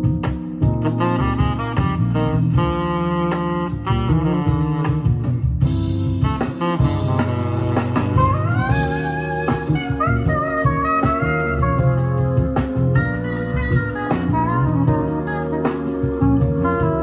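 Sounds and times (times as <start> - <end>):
jazz music from cassette tape: 0.0 - 17.0.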